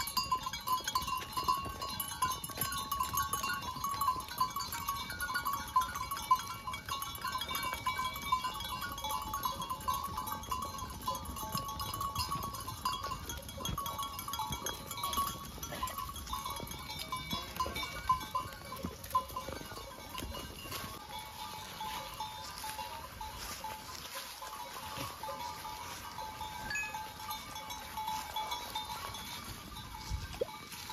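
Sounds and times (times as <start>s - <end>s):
hooves crunching dry leaves: 0.0s - 30.9s.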